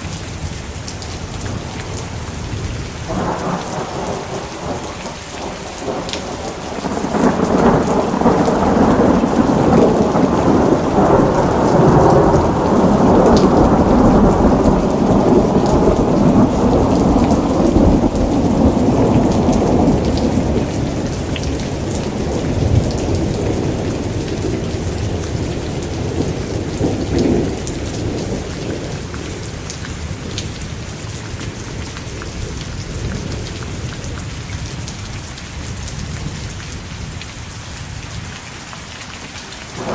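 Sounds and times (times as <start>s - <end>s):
steady rain falling: 0.0s - 39.9s
rolling thunder: 1.4s - 34.2s.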